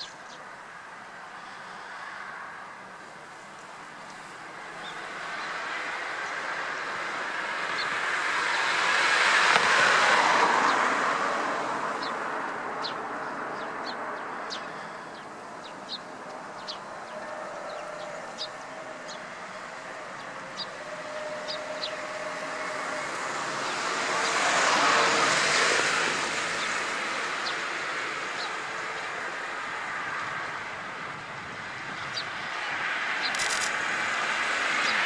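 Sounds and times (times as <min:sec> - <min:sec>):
vehicle passing: 0:01.4 - 0:35.0.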